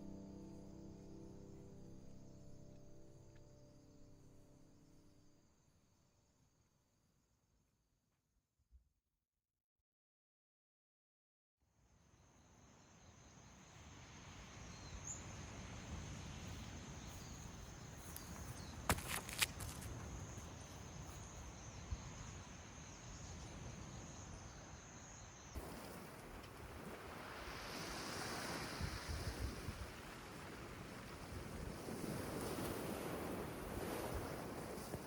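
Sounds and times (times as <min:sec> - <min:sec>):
low outdoor hiss: 0:00.0 - 0:07.2, 0:11.7 - 0:35.0.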